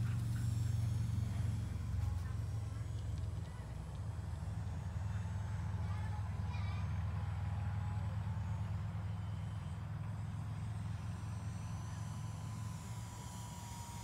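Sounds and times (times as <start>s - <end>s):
distant model plane engine drone: 0.0s - 14.0s.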